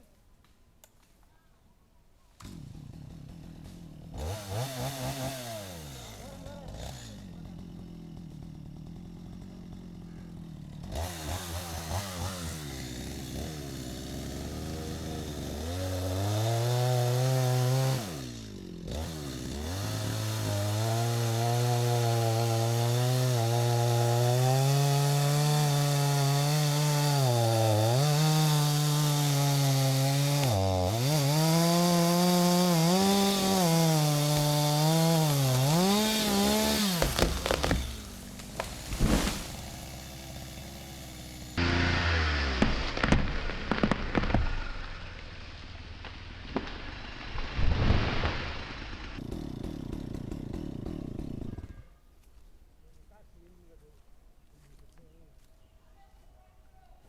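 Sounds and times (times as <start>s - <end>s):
chainsaw engine revving: 2.4s - 45.4s, 46.5s - 51.8s
chainsaw cutting wood: 2.4s - 51.8s.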